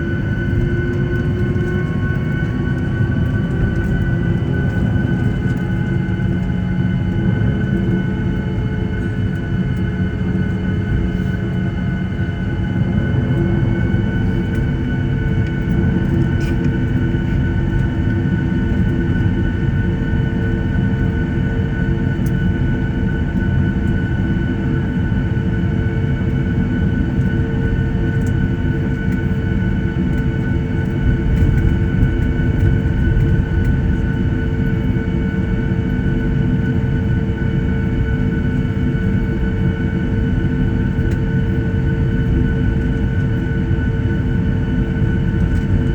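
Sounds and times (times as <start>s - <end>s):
jet engines idling: 0.0s - 45.9s.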